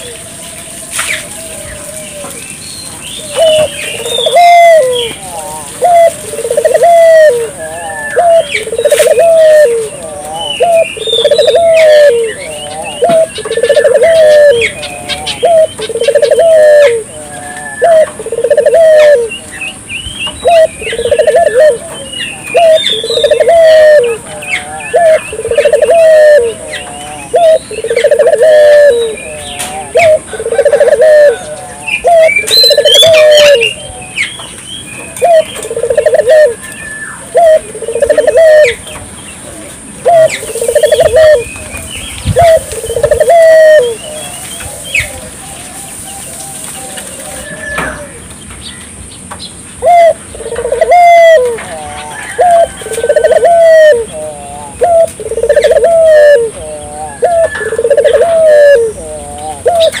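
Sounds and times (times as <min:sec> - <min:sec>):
doves cooing: 0:00.0 - 0:48.7, 0:49.7 - 1:00.0
small birds chirping: 0:00.0 - 1:00.0.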